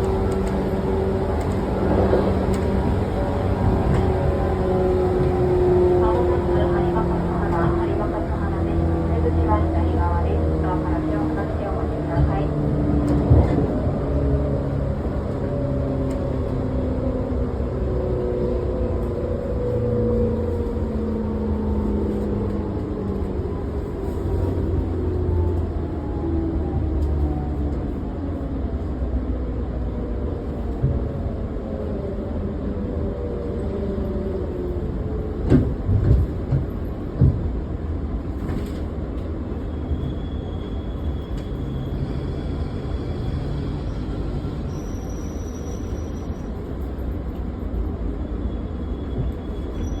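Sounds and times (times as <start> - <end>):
train rumble: 0.0 - 50.0.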